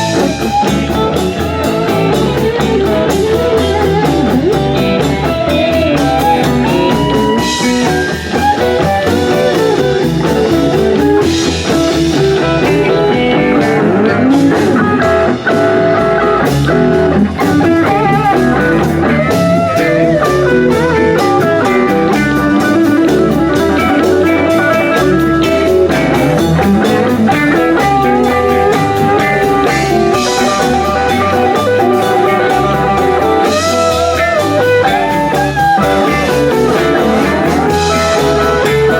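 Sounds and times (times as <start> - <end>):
bass line: 0.0 - 38.9
drum kit: 0.0 - 38.9
electric guitar lead: 0.0 - 38.9.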